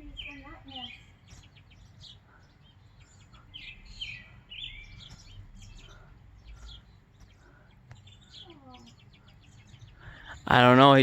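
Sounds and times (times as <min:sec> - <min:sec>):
longer sweeping bird calls: 0:00.0 - 0:11.0
small birds chirping: 0:00.0 - 0:11.0.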